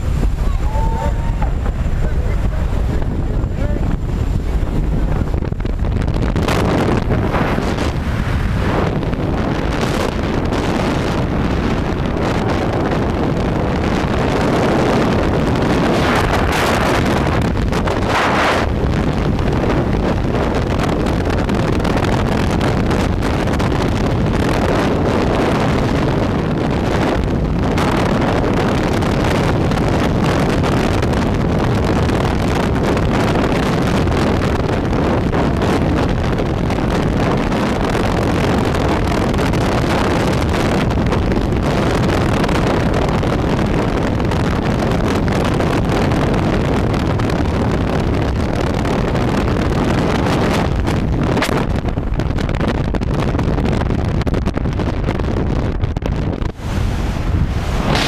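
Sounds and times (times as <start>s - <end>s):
air rushing across microphone: 0.0s - 58.0s.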